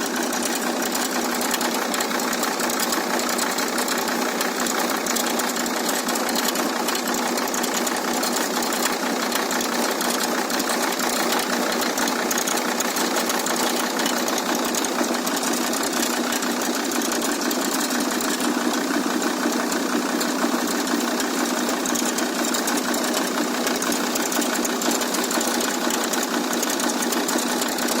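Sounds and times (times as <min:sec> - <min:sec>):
diesel engine idling: 0:00.0 - 0:28.0
rapid knocking from belt tensioner: 0:00.0 - 0:28.0.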